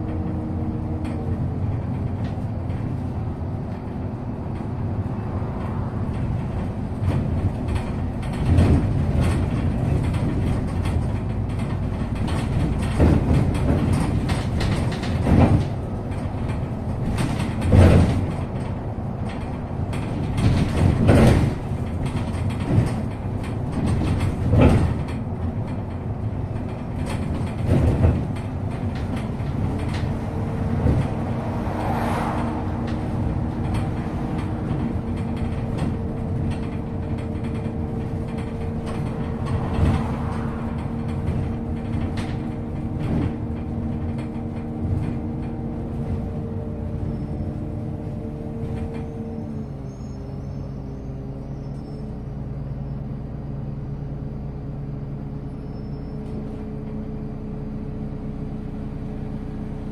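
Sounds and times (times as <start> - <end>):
bus body knocking and rattling: 0.0 - 59.9
bus diesel and road rumble: 0.0 - 59.9.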